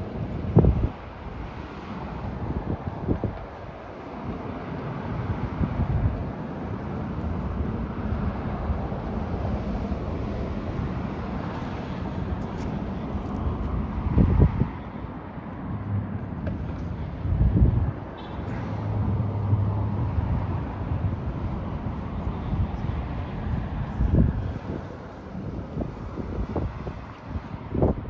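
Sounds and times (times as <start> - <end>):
wind noise on microphone: 0.0 - 28.0.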